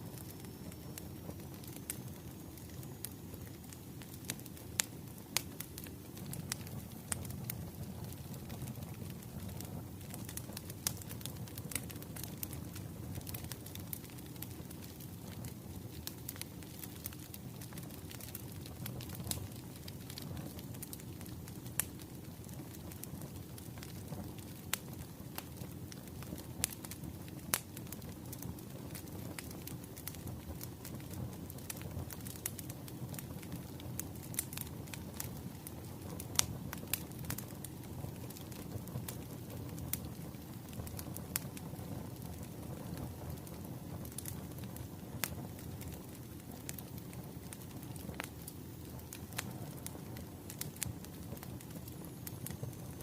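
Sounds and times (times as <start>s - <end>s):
crackles and pops of burning logs: 0.0s - 53.0s
low rumble of flames: 0.0s - 53.0s.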